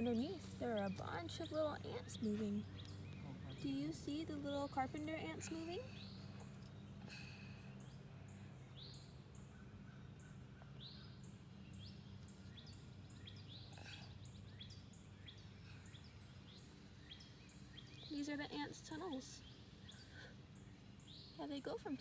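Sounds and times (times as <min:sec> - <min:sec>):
birds chirping: 0:00.0 - 0:22.0
low steady hum: 0:00.0 - 0:22.0.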